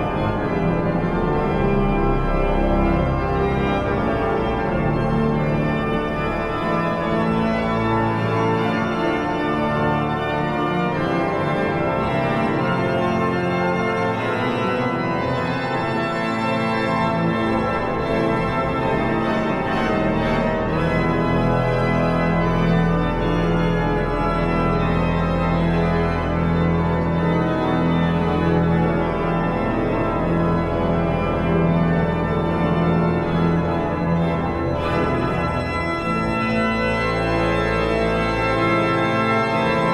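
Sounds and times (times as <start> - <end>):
pipe organ chords: 0.0 - 39.9.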